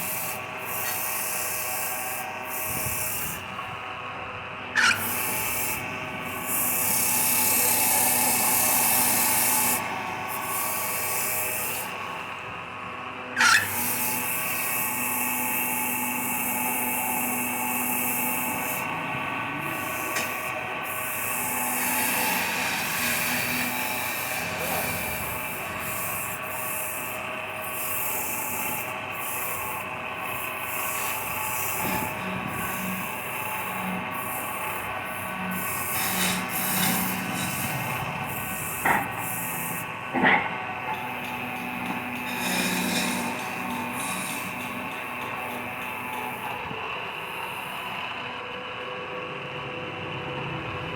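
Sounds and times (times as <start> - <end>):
tool hissing against spinning wood: 0.0 - 3.6, 4.8 - 12.3, 13.4 - 47.8
wood lathe humming: 0.0 - 49.5.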